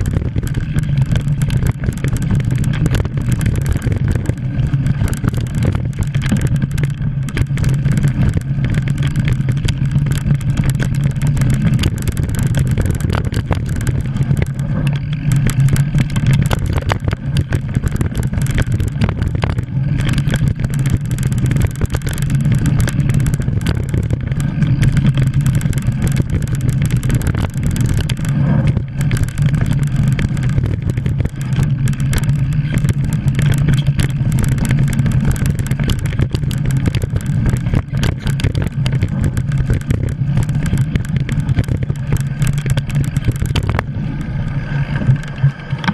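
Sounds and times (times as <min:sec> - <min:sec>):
bike clattering over bumps: 0:00.0 - 0:45.9
tyres rumbling on dirt: 0:00.0 - 0:45.9
wind on microphone: 0:00.0 - 0:45.9.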